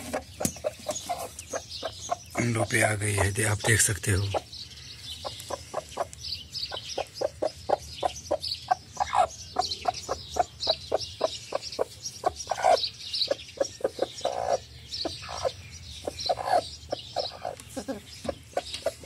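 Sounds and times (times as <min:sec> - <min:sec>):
hen clucking: 0:00.0 - 0:19.0.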